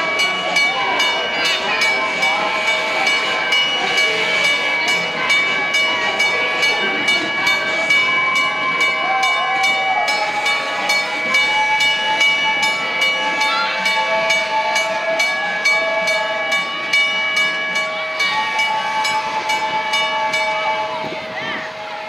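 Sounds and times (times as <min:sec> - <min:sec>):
high-pitched train squeal: 0:00.0 - 0:16.9, 0:17.7 - 0:22.0.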